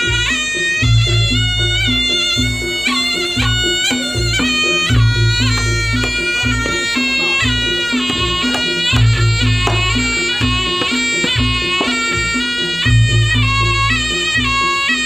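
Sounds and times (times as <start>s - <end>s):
shawm playing bending melody: 0.0s - 15.0s.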